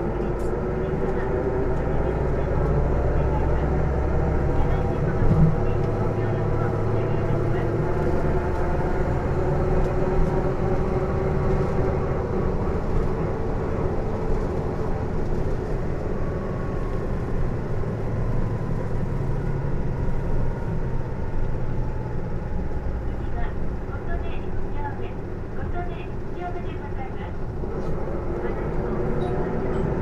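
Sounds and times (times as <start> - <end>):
bus drivetrain whine: 0.0 - 30.0
bus engine: 0.0 - 30.0.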